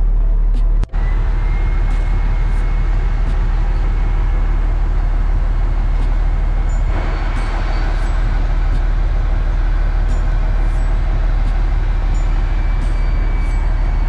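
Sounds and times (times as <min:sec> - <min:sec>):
machinery engine drone: 0:00.0 - 0:14.0
faint high whine: 0:00.9 - 0:14.0.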